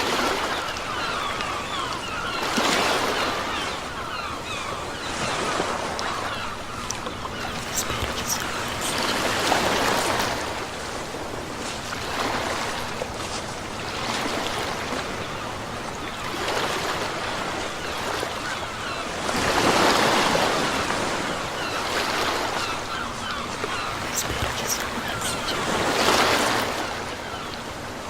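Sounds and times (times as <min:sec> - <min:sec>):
ocean waves breaking on shore: 0:00.0 - 0:28.0.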